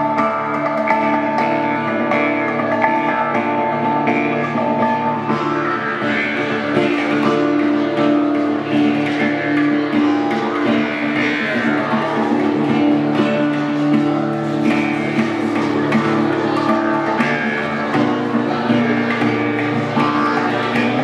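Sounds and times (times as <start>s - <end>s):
plucked string instrument: 0.0s - 21.0s.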